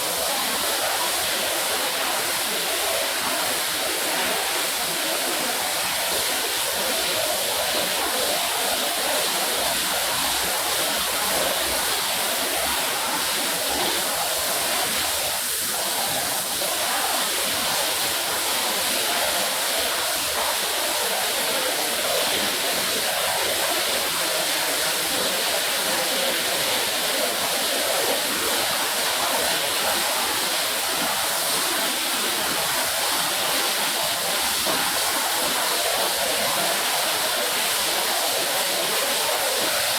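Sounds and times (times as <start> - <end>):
water spraying onto a wet rug: 0.0 - 39.9.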